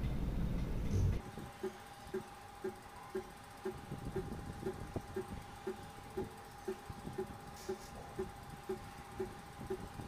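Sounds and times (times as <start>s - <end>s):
faint hum with soft pulses: 0.0s - 10.0s.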